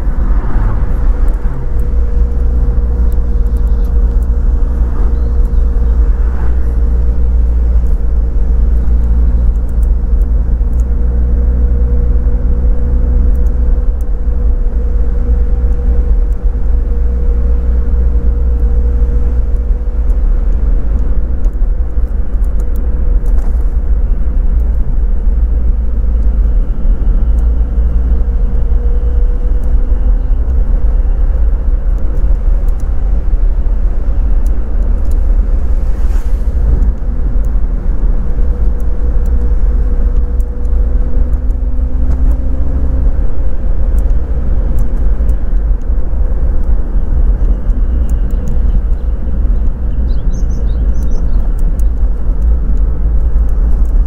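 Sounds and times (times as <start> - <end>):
car engine drone: 0.0 - 54.0
road and wind noise: 0.0 - 54.0.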